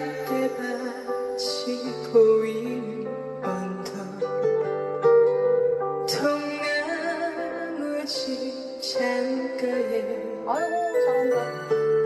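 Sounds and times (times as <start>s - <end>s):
instrumental ballad melody: 0.0s - 12.0s.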